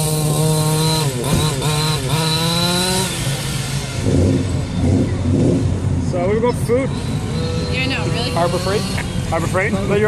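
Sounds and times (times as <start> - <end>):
small engine revving: 0.0 - 5.9, 6.5 - 10.0.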